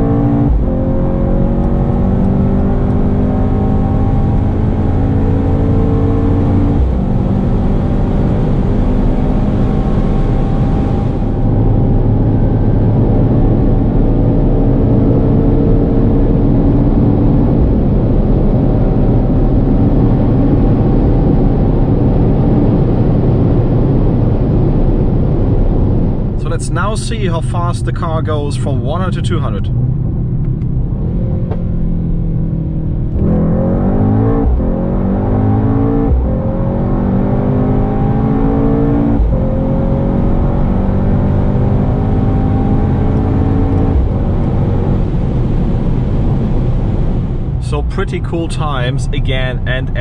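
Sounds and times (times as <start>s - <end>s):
car engine at full throttle: 0.0s - 50.0s
wind and road noise: 0.0s - 50.0s.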